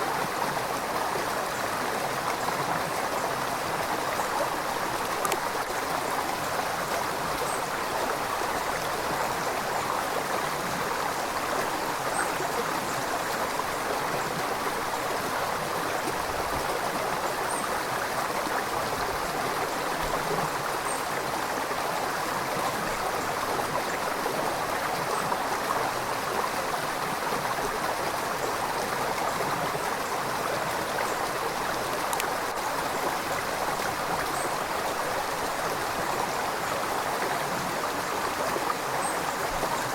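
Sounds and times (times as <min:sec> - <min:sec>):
river water flowing and gurgling: 0:00.0 - 0:39.9.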